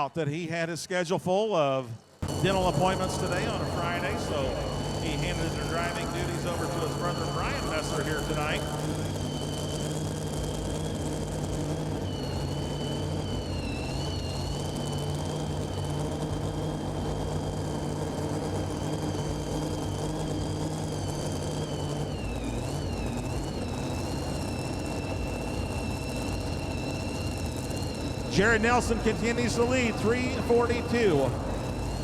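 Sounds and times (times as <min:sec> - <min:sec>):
high whine: 0:02.2 - 0:32.0
truck engine idling: 0:02.2 - 0:32.0.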